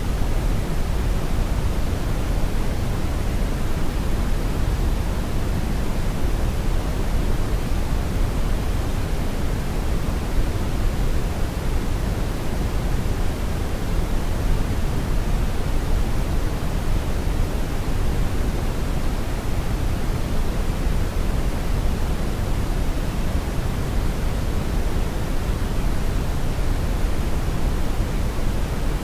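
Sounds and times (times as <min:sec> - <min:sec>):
steady brown noise: 0:00.0 - 0:29.0.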